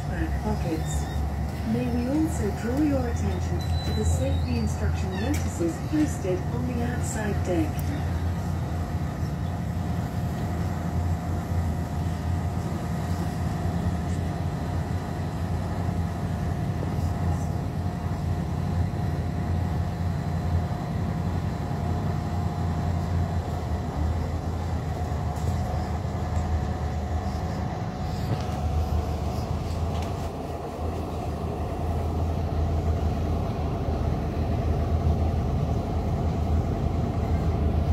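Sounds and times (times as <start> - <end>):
boat engines droning: 0.0 - 37.9.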